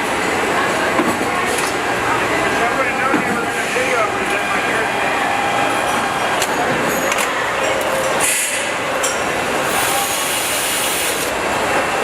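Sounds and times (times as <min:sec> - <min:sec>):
factory machinery din: 0:00.0 - 0:12.0.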